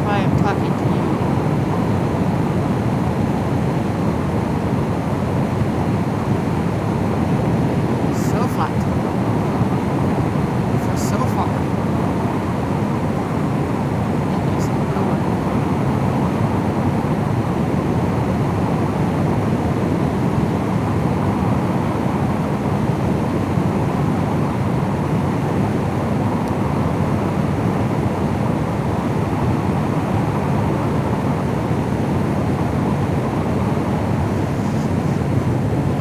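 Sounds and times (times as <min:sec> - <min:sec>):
vehicle road noise at highway speed: 0:00.0 - 0:36.0.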